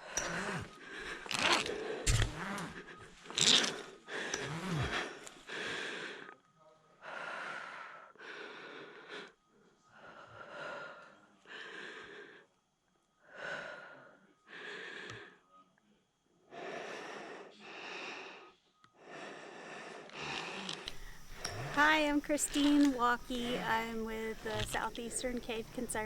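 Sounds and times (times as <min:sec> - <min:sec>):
person breathing hard: 0:00.0 - 0:06.4, 0:07.0 - 0:12.6, 0:13.3 - 0:15.4, 0:16.5 - 0:26.0.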